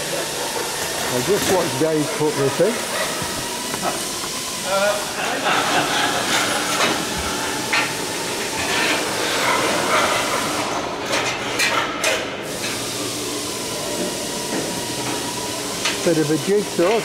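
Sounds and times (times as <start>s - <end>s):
workshop hiss: 0.0s - 17.0s.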